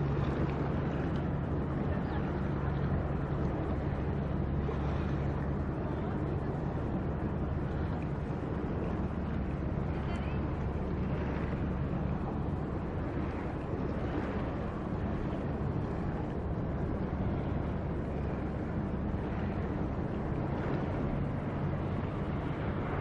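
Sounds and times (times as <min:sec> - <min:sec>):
boat engine drone: 0:00.0 - 0:23.0
water wash: 0:00.0 - 0:23.0
wind buffeting microphone: 0:00.0 - 0:23.0.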